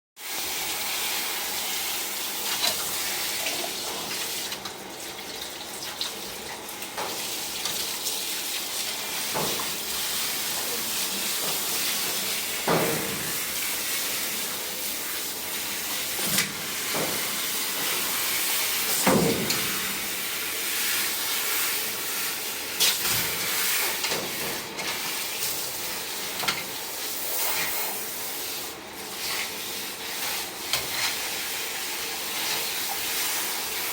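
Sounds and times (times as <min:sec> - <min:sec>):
water spraying: 0:00.3 - 0:33.9.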